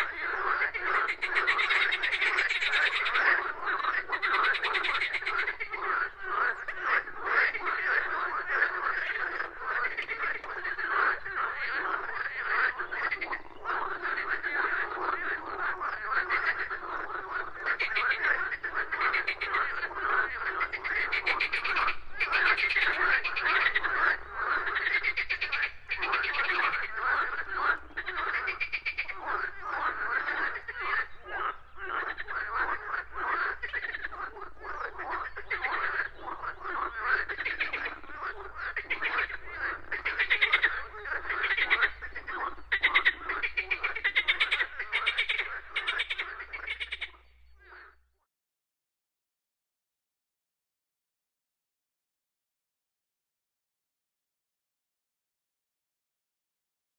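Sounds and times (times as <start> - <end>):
chorus of frogs croaking: 0.0 - 48.3.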